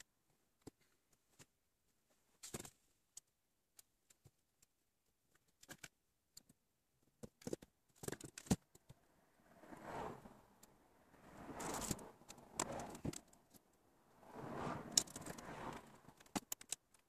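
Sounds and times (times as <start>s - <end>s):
wires rustling and clicking: 0.0s - 9.1s, 10.5s - 13.9s, 14.8s - 17.0s.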